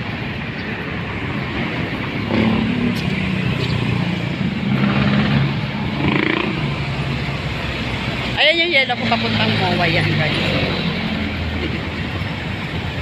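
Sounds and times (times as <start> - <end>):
cars driving past: 0.0 - 13.0
steady engine hum: 0.0 - 13.0.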